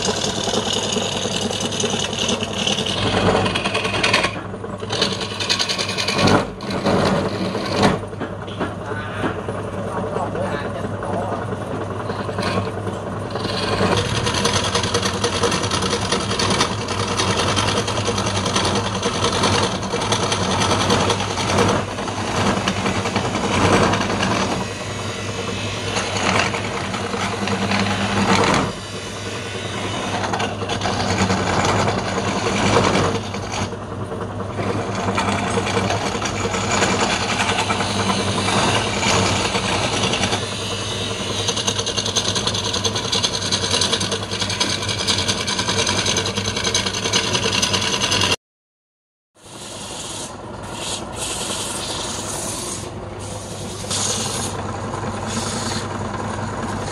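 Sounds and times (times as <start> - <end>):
gouge scraping wood: 0.0 - 8.0, 12.1 - 33.8, 34.6 - 48.4, 49.6 - 54.6, 55.2 - 56.0
wood lathe humming: 0.0 - 10.2, 11.0 - 48.4, 49.4 - 56.9.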